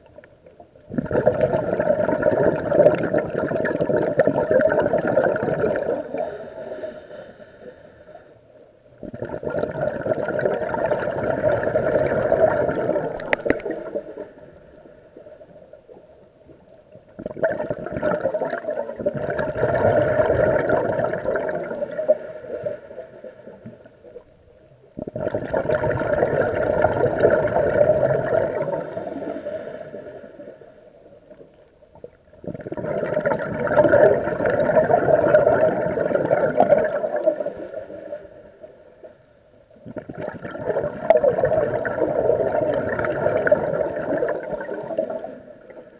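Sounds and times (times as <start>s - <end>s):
gurgling exhaled bubbles: 0.8s - 6.9s, 9.0s - 22.8s, 24.9s - 38.4s, 39.8s - 45.9s.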